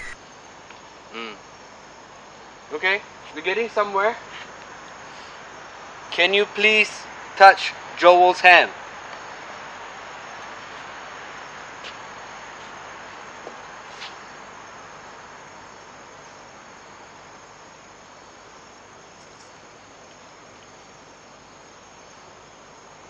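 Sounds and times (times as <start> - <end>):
night insects chorus: 0.0 - 23.0.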